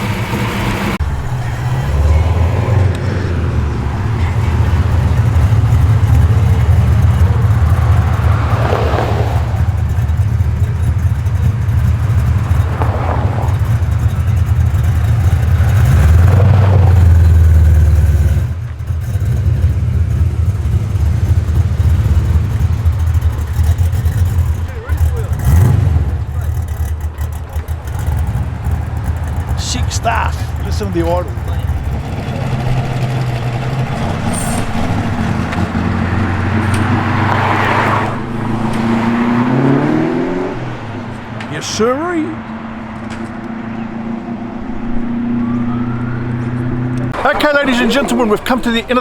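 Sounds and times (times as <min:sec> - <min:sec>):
car engine exhaust rumble: 0:00.0 - 0:49.0.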